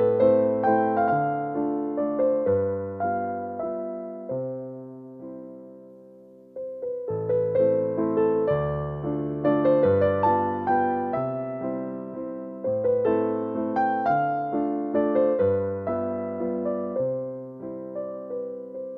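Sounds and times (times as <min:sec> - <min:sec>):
slow piano melody: 0:00.0 - 0:18.9.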